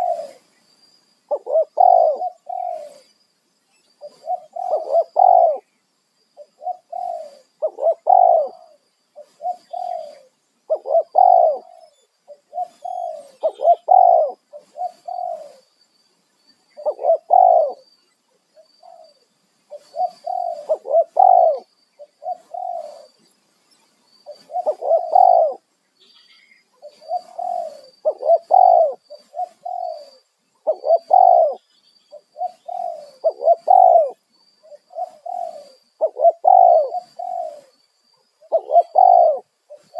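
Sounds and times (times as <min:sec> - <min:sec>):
dove cooing: 0:00.0 - 0:00.4, 0:01.3 - 0:03.1, 0:04.0 - 0:05.7, 0:06.4 - 0:15.7, 0:16.8 - 0:17.9, 0:18.8 - 0:23.2, 0:24.2 - 0:25.6, 0:26.8 - 0:37.8, 0:38.4 - 0:39.9.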